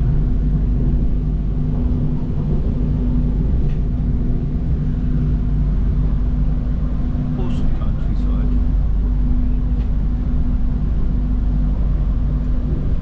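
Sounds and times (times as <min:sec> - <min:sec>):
constant hum: 0:00.0 - 0:13.0
train rumbling on track: 0:00.0 - 0:13.0.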